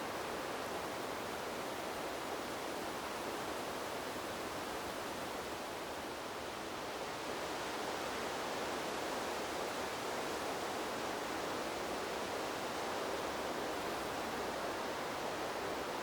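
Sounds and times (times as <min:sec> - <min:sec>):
wind rustling bamboo leaves: 0:00.0 - 0:16.0.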